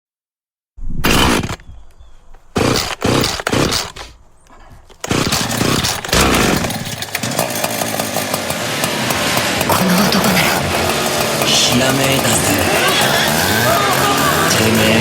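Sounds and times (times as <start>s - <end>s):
chainsaw engine revving: 1.0s - 1.8s, 2.5s - 4.2s, 4.9s - 15.0s.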